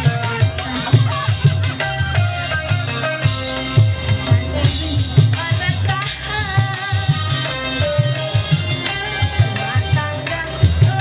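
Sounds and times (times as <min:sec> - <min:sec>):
loud amplified party music: 0:00.0 - 0:11.0.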